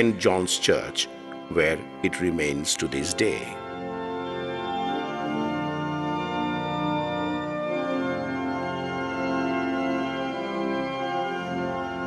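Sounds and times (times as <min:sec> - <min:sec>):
organ playing sustained chords: 0:00.0 - 0:12.0.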